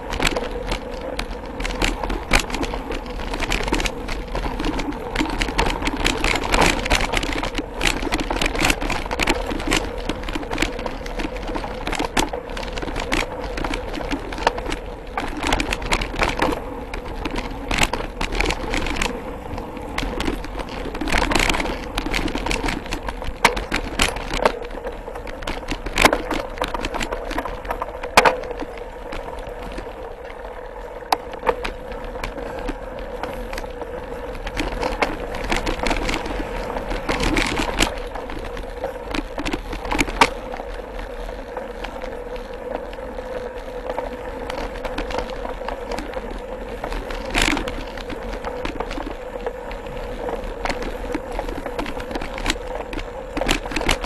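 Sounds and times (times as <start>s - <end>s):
bike clicks knocks and rattles: 0.0s - 54.0s
bike tyres on dirt trail: 0.0s - 54.0s.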